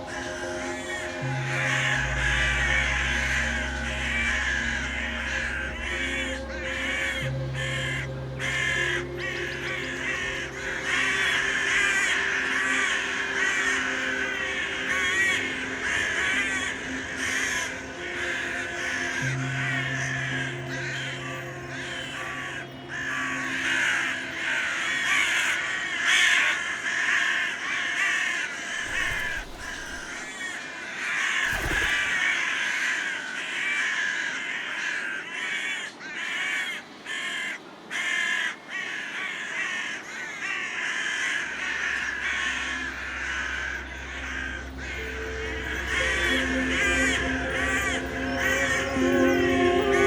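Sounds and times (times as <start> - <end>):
crows cawing: 0.1 - 50.0.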